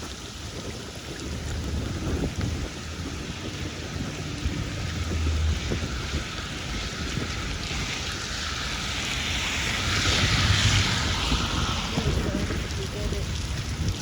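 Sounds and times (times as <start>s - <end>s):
rain falling: 0.0s - 14.0s
wind buffeting microphone: 0.0s - 14.0s.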